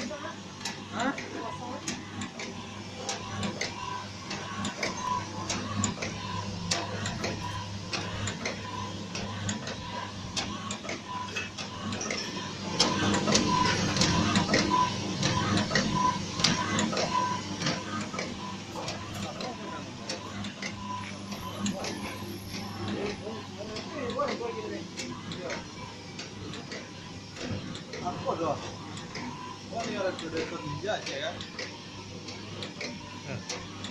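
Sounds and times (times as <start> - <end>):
air pump motor hum: 0.0 - 33.9.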